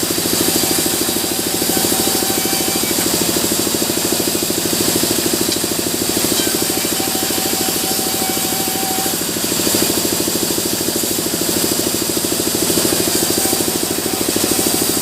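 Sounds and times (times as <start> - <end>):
sawmill machinery chugging: 0.0 - 15.0.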